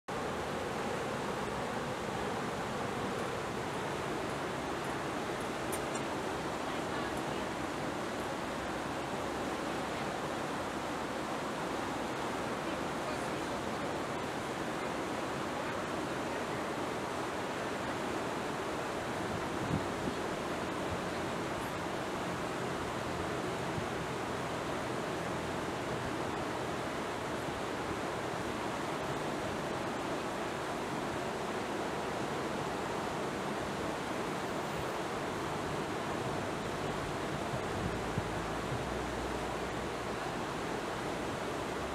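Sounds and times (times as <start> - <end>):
flowing water rushing: 0.1 - 41.9.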